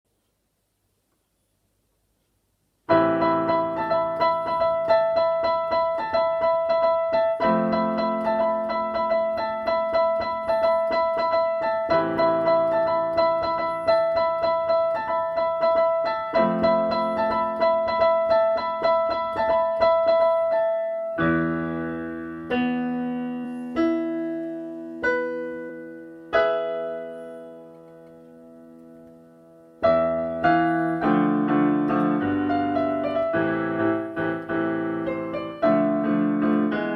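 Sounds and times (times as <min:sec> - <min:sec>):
solo piano playing: 0:02.8 - 0:36.9.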